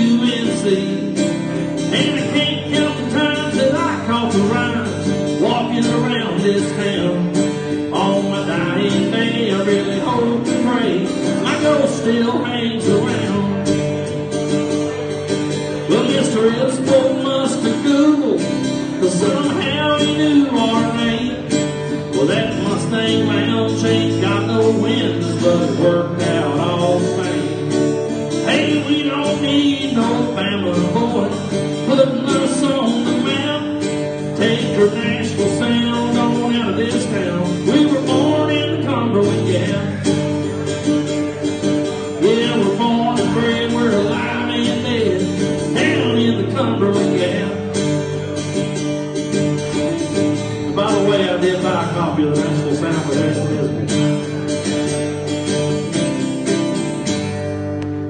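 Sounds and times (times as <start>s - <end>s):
acoustic guitars playing country: 0.0s - 58.0s.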